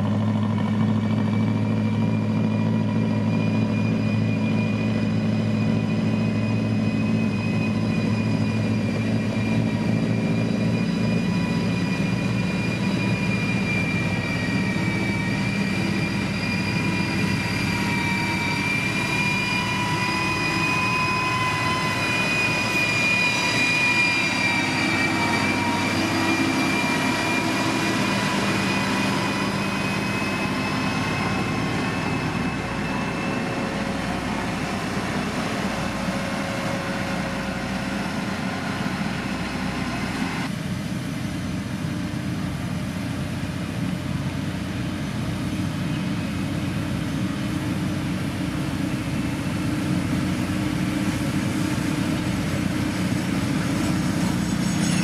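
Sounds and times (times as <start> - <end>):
diesel engine running: 0.0 - 55.0
high-pitched whine: 0.0 - 55.0.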